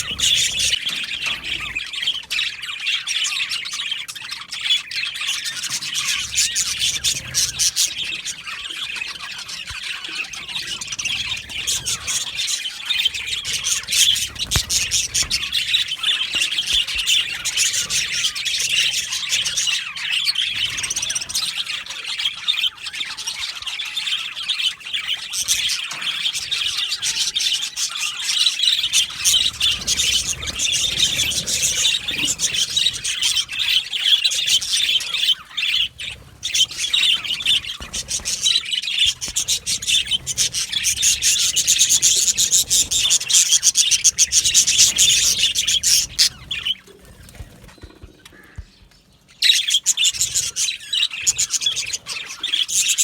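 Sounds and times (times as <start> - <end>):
budgerigars chattering: 0.0 - 53.0.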